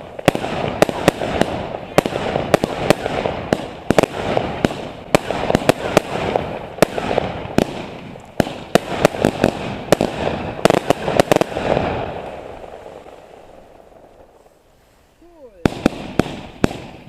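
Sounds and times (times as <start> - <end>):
distant bangs and crackle: 0.0 - 14.6, 15.6 - 17.0
firecrackers banging: 0.0 - 17.0.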